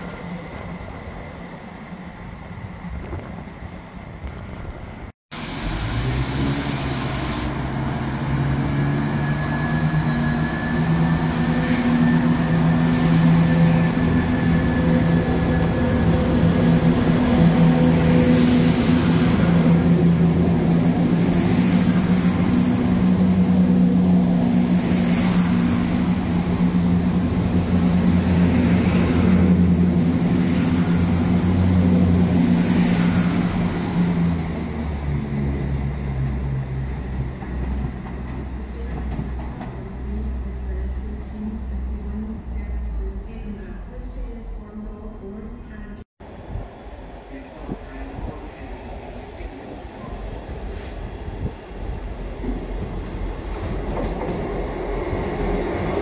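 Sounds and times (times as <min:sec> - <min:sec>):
diesel train engine drone: 0:00.0 - 0:56.0.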